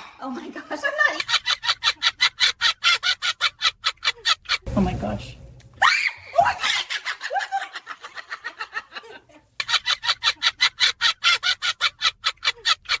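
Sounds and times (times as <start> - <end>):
cackling laughter: 0.2 - 4.6, 6.3 - 13.0.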